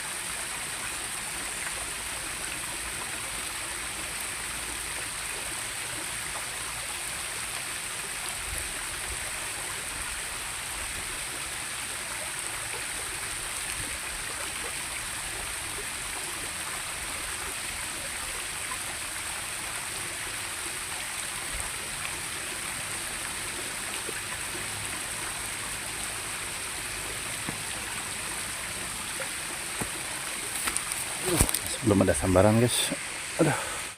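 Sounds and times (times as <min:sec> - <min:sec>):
stream water rushing: 0:00.0 - 0:33.9.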